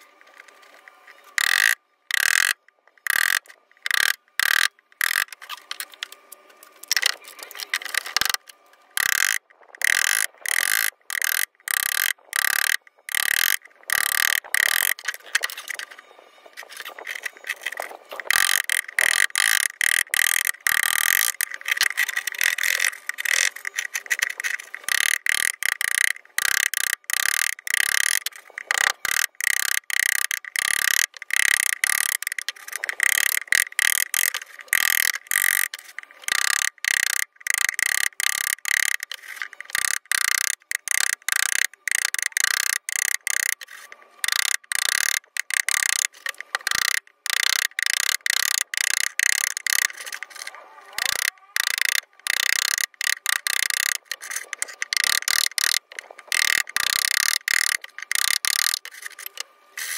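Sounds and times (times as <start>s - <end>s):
woodworking tool on wood: 0.3s - 59.9s.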